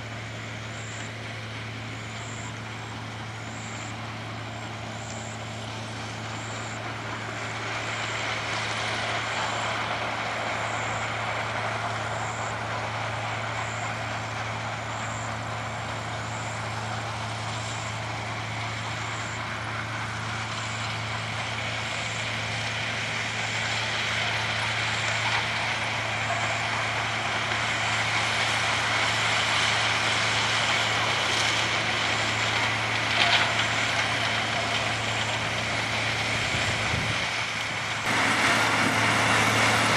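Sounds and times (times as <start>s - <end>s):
harvester engine hum: 0.0s - 39.9s.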